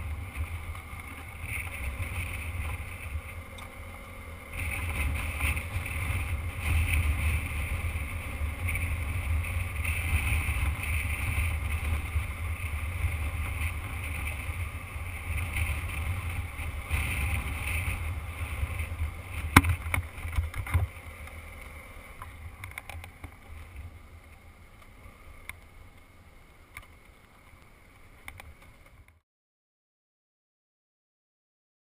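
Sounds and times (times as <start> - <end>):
motorcycle engine and wind rumble: 0.0 - 29.2.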